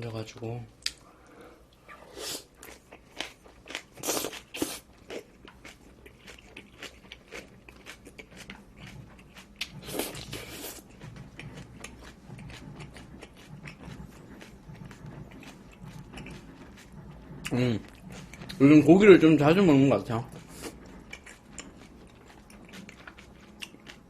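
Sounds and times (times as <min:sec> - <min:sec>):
crunchy biting and chewing: 0:02.0 - 0:24.0.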